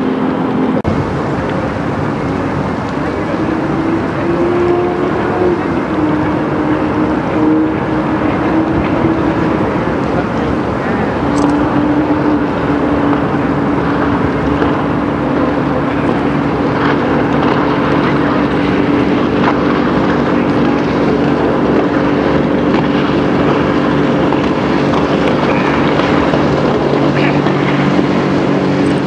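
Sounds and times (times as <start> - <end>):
hazy rushing noise: 0.0 - 29.0
speedboat engine running: 0.0 - 29.0.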